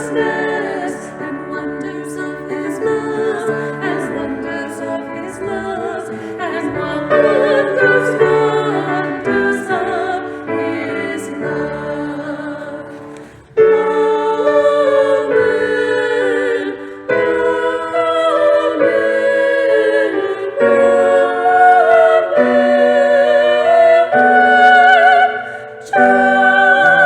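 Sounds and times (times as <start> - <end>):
piano accompaniment: 0.0 - 27.0
women singing in harmony: 0.0 - 27.0.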